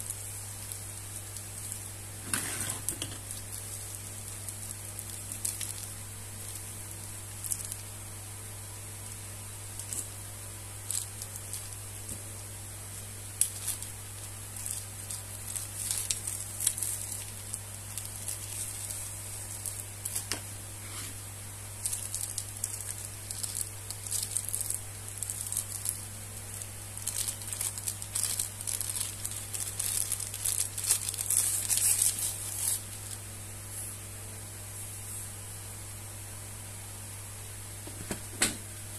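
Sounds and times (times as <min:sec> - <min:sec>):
plastic wrapping crinkling: 0:00.0 - 0:08.0, 0:08.6 - 0:20.6, 0:21.7 - 0:33.3
steady low hum: 0:00.0 - 0:38.9.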